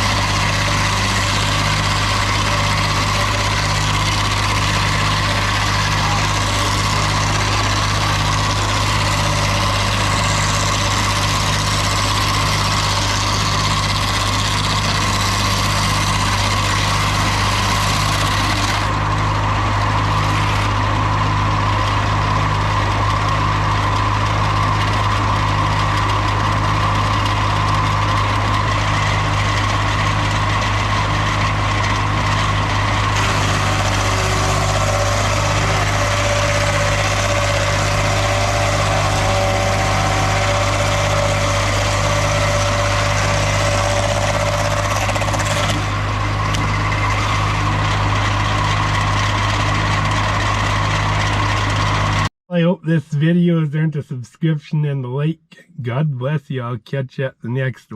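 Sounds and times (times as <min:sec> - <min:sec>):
engine idling: 0:00.0 - 0:52.3.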